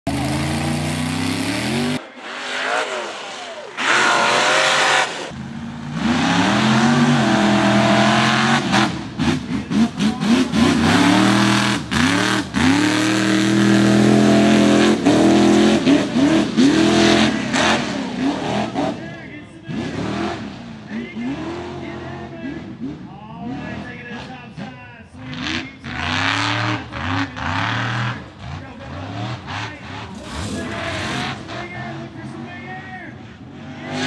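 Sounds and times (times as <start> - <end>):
truck engine revving hard: 0.1 - 34.0.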